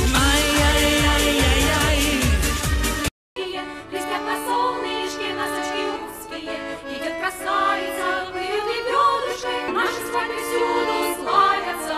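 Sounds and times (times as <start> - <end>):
instrumental accompaniment: 0.0 - 11.9.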